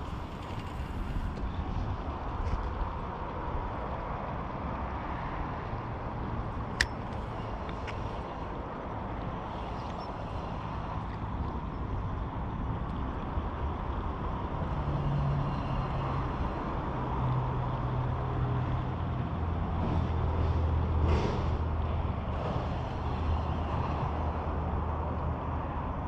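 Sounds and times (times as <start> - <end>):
highway traffic rumble: 0.0 - 26.0.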